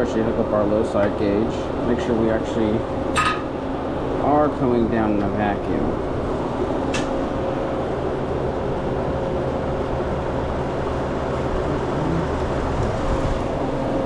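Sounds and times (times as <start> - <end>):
refrigeration unit droning: 0.0 - 14.0.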